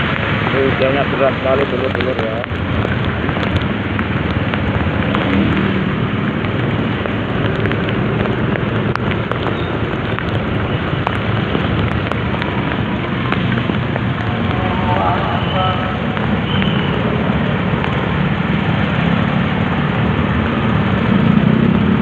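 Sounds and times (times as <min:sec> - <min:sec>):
heavy rain pouring: 0:00.0 - 0:22.0
raindrops ticking: 0:00.0 - 0:22.0.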